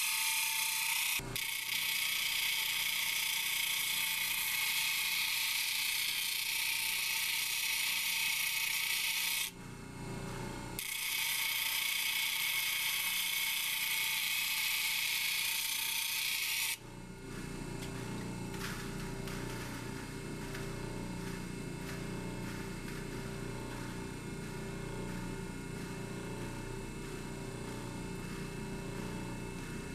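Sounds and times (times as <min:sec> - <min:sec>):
lap wheel humming: 0:00.0 - 0:29.9.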